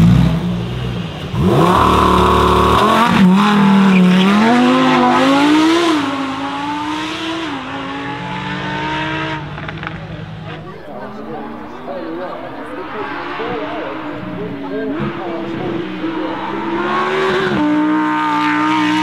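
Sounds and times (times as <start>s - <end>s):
car accelerating with upshifts: 0.0s - 19.0s
sports car engine revving: 0.0s - 19.0s.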